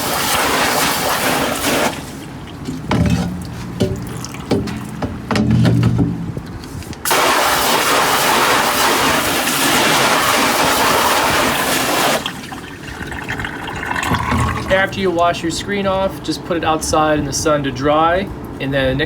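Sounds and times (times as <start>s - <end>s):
hose nozzle spraying water: 0.0s - 15.3s.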